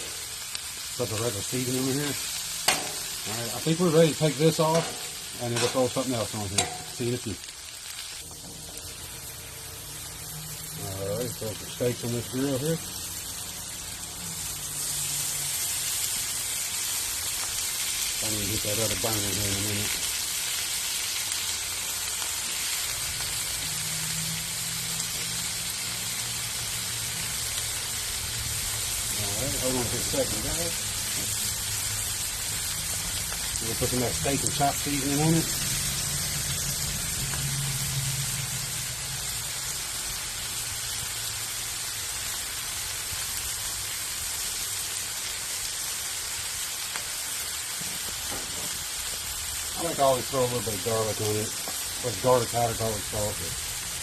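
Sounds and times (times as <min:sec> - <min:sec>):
steaks sizzling on a griddle: 0:00.0 - 0:54.0.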